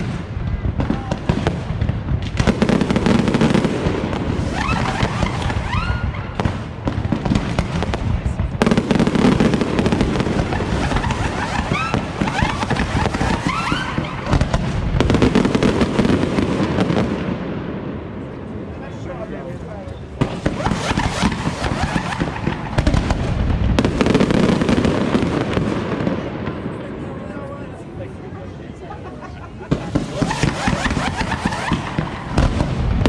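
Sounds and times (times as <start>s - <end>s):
fireworks bursting and crackling: 0.0s - 18.0s, 18.9s - 27.2s, 29.5s - 33.0s.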